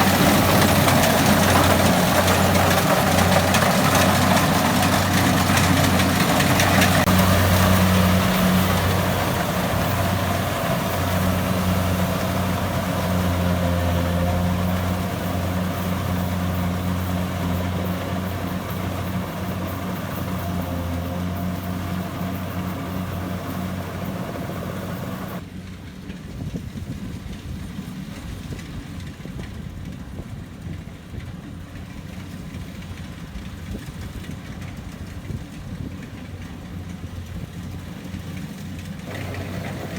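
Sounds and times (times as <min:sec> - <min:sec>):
heavy engine humming: 0:00.0 - 0:26.2, 0:29.6 - 0:39.9.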